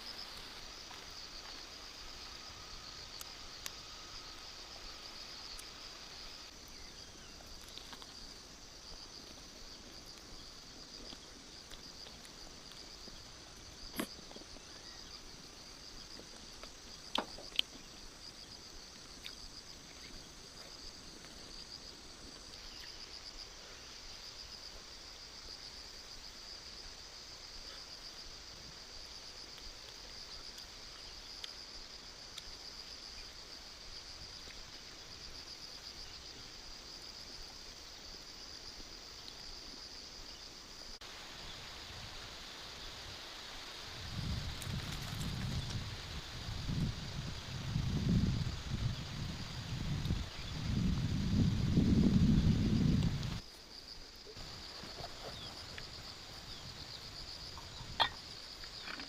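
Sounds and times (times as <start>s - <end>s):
insect chorus trilling: 0.0s - 59.0s.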